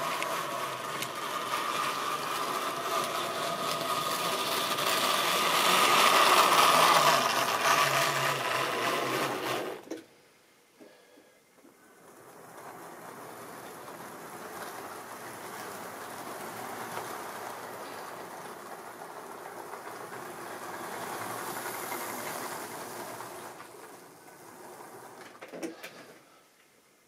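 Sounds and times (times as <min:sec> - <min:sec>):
model train wheels rattling: 0:00.0 - 0:10.1, 0:11.8 - 0:26.2.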